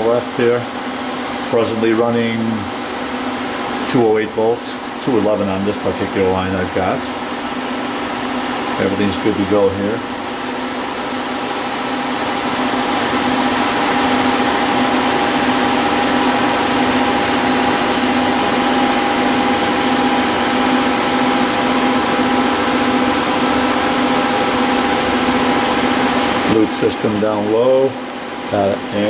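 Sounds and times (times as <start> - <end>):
machining center whirring hum: 0.0 - 29.0.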